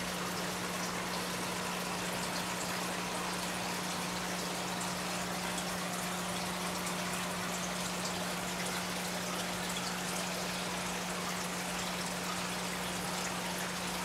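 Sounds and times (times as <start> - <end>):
aquarium water bubbling: 0.0 - 14.0.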